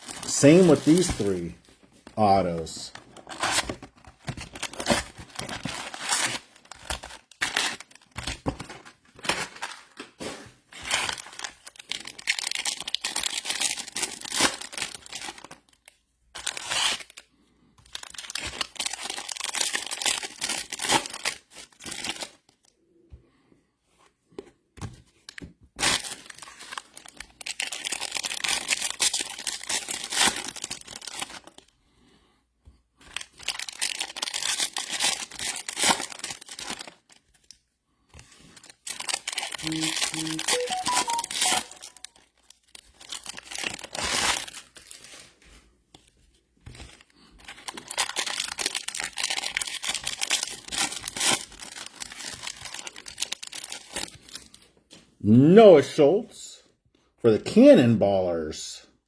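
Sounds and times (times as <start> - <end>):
wrappers tearing and crinkling: 0.0 - 1.7, 3.0 - 22.6, 25.3 - 31.7, 33.0 - 37.6, 38.2 - 46.1, 46.7 - 54.7.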